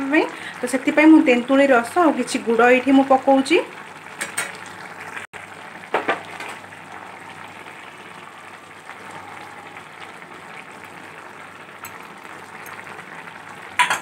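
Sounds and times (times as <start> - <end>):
curry bubbling in a pot: 0.0 - 14.0.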